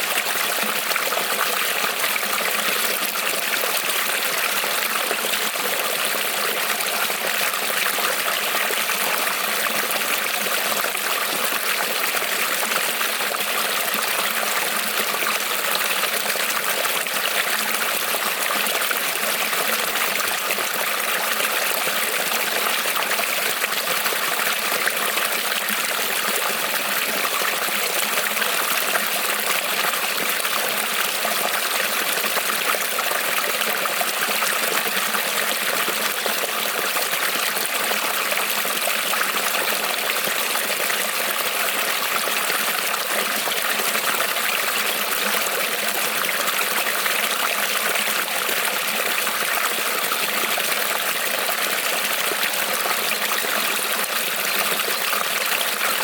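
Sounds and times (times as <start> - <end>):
creek trickling over stones: 0.0 - 56.0.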